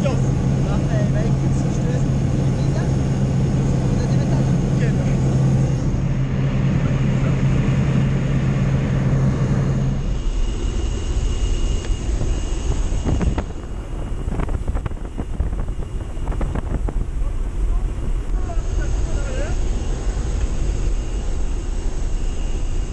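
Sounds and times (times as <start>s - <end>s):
low steady hum: 0.0s - 22.9s
propeller plane engine drone: 0.0s - 22.9s.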